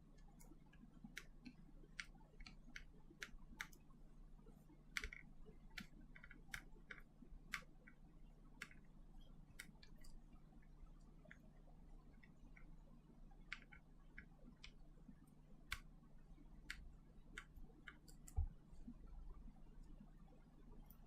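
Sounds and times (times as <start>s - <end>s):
light clicks of small parts: 0.0s - 4.0s, 4.6s - 19.0s, 20.7s - 21.0s
low steady hum: 0.0s - 21.0s.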